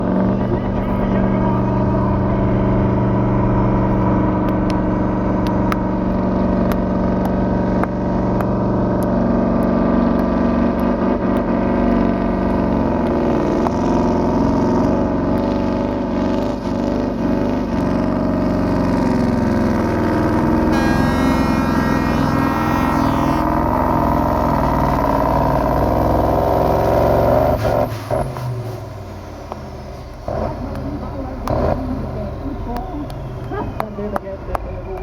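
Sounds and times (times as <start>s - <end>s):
diesel engine under heavy load: 0.0s - 35.0s.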